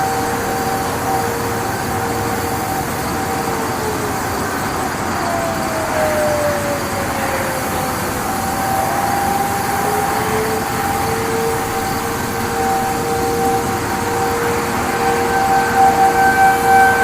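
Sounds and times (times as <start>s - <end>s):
steady rushing noise: 0.0s - 17.0s
tornado warning sirens: 0.0s - 17.0s.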